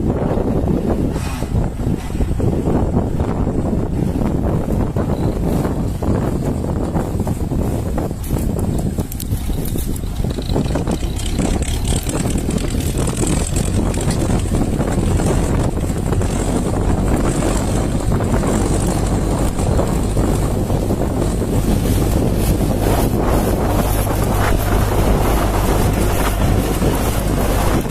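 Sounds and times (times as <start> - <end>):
diesel engine running: 0.0 - 27.9
wind noise on microphone: 0.0 - 27.9.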